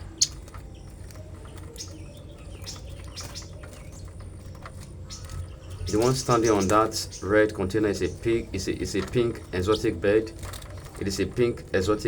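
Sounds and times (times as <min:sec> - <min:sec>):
small songbirds chirping: 0:00.0 - 0:12.0.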